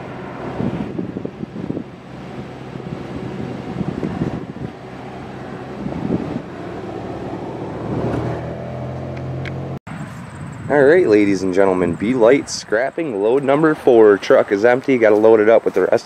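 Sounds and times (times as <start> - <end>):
helicopter flying overhead: 0.0 - 15.6
wind gusts on microphone: 0.0 - 16.0.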